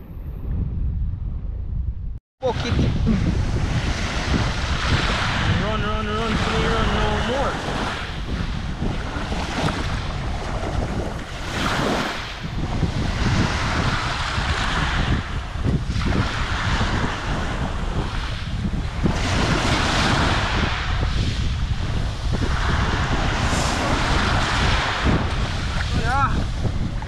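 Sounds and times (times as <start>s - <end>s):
wind buffeting microphone: 0.0s - 27.0s
waves washing over pebbles: 2.4s - 15.3s, 15.9s - 21.3s, 21.9s - 27.0s.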